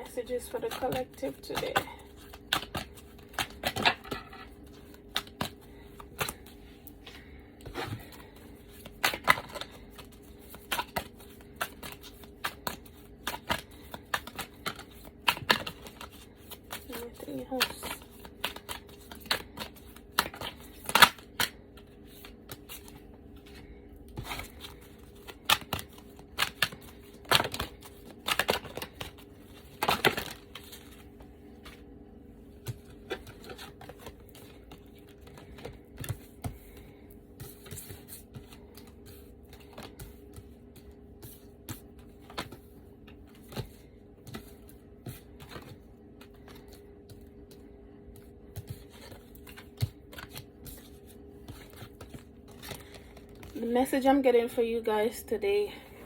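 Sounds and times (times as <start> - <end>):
faint steady hum: 0.0 - 56.0
cards being shuffled: 0.2 - 31.9, 32.5 - 53.6.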